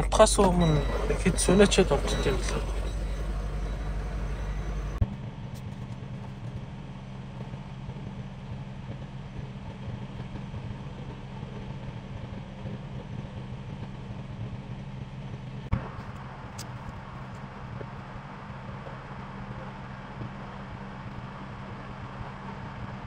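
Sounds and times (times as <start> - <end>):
truck engine idling: 0.0 - 14.2, 15.7 - 23.0.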